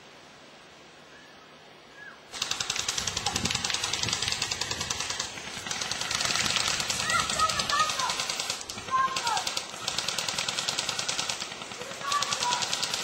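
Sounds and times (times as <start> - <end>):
airsoft rifle firing full auto: 2.3 - 13.0.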